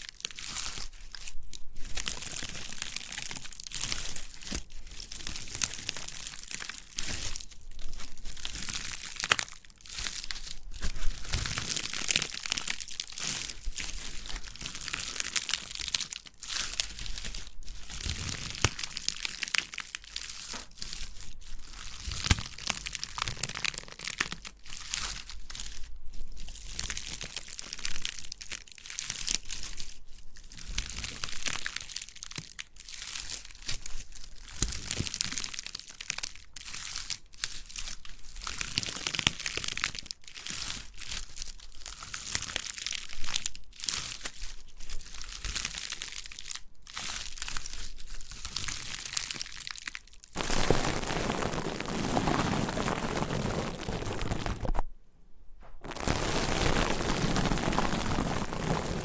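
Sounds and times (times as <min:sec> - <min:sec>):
crackling and crinkling on microphone: 0:00.0 - 0:59.0.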